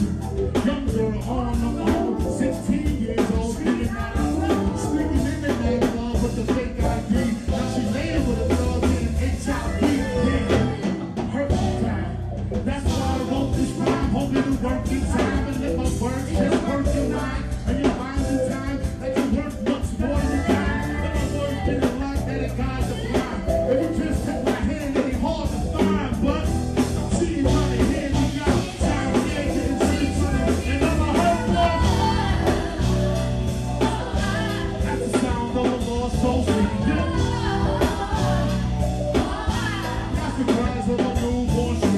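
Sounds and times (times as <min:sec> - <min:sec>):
drum beat: 0:00.0 - 0:12.0, 0:12.6 - 0:41.9
bass: 0:00.0 - 0:41.9
person singing: 0:00.0 - 0:41.9.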